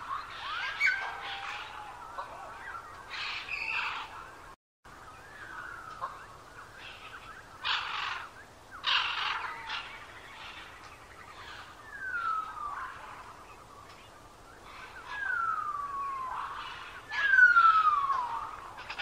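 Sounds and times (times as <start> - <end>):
birds chirping: 0.0 - 19.0
harsh bird calls: 0.0 - 19.0.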